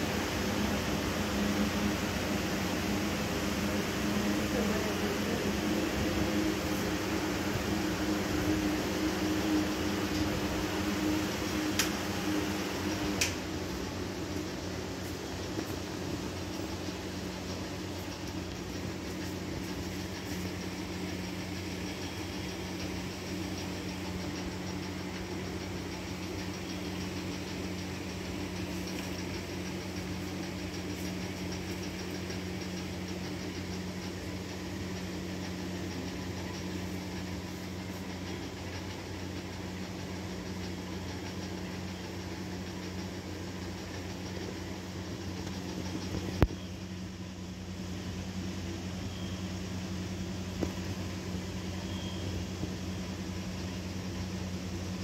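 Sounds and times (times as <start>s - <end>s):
low mechanical hum: 0.0s - 55.0s.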